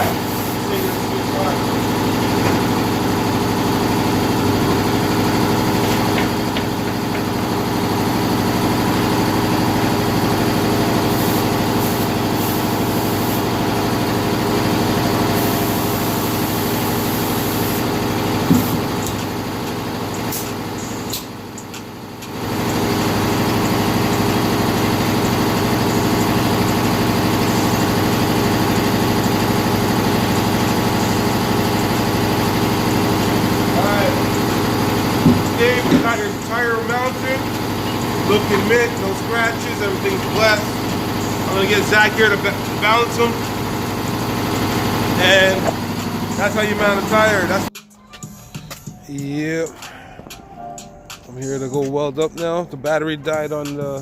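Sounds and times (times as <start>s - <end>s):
machine humming: 0.0s - 54.0s.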